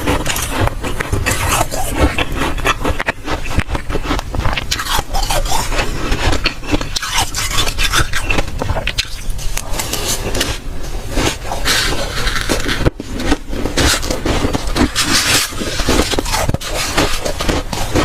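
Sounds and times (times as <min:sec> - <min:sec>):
crunching of dry frost: 0:00.0 - 0:18.0.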